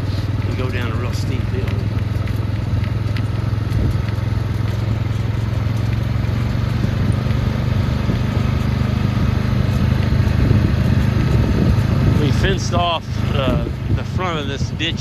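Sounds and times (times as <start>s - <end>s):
off-road vehicle engine humming: 0.0s - 15.0s.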